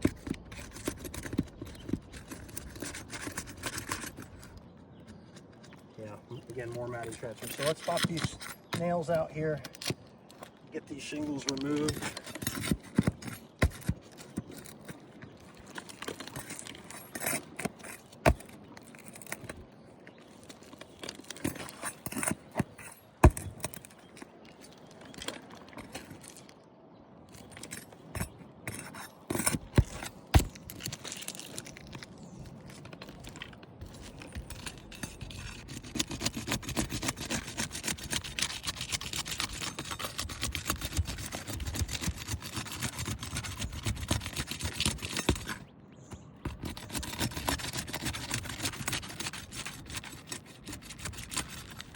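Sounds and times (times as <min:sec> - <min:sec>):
scraping and rubbing: 0:00.0 - 0:26.6, 0:27.3 - 0:51.9.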